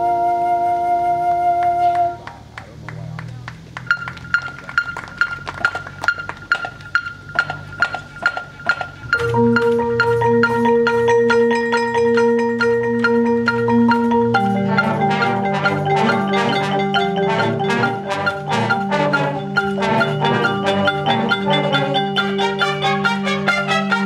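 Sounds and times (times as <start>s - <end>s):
marimbas playing fast notes: 3.1s - 24.0s
marching band music: 3.6s - 24.0s.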